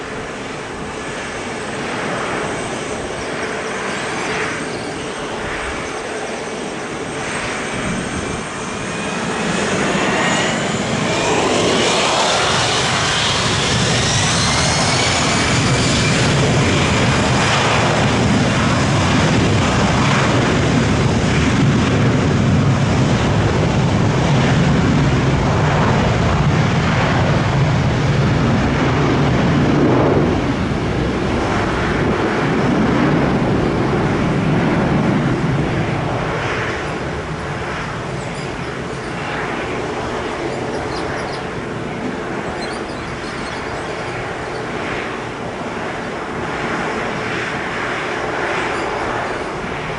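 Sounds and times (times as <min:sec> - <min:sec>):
aircraft engines rumbling: 0:00.0 - 0:49.9.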